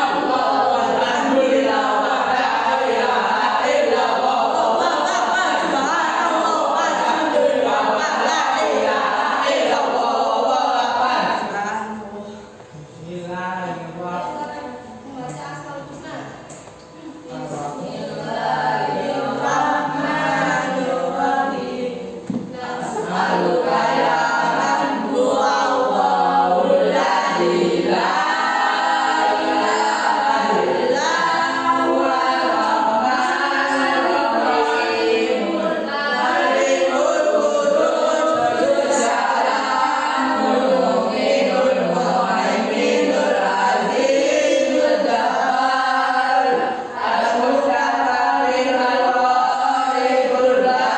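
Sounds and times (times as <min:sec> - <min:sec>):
choir singing: 0:00.0 - 0:11.6, 0:17.3 - 0:50.9.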